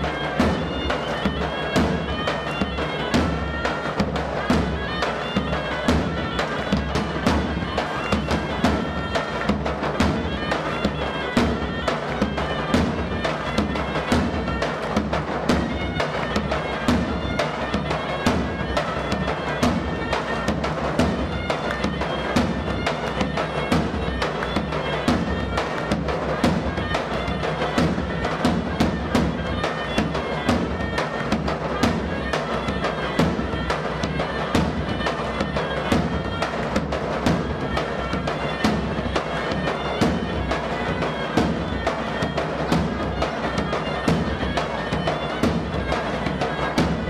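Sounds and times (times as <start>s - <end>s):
large drum beat: 0.0s - 47.0s
shrill reed wind instrument: 0.0s - 47.0s.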